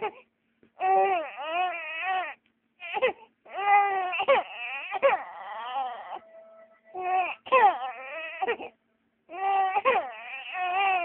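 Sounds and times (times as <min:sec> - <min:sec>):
baby crying: 0:00.8 - 0:06.3, 0:06.9 - 0:08.7, 0:09.3 - 0:11.0.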